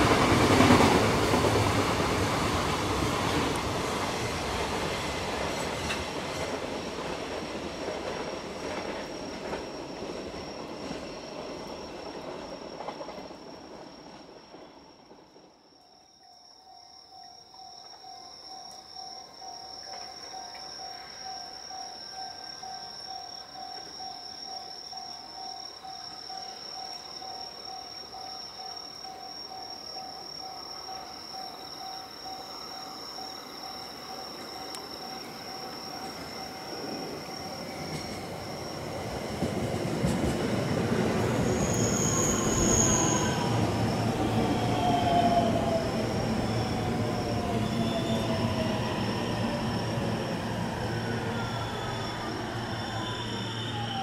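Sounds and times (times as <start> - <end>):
electric train approaching: 0.0 - 15.6, 16.7 - 54.0
insect chirping: 0.0 - 54.0.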